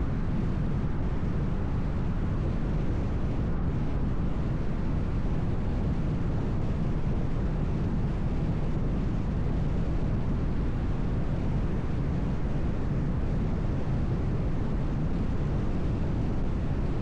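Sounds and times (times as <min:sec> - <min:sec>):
low running hum: 0:00.0 - 0:17.0.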